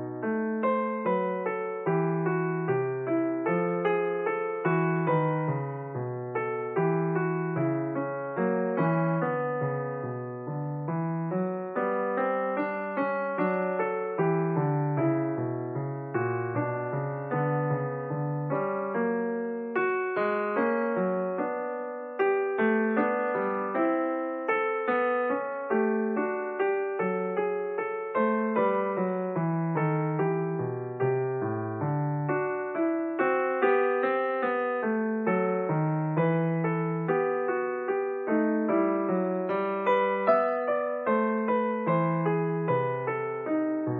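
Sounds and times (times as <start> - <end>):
piano playing: 0.0 - 43.9.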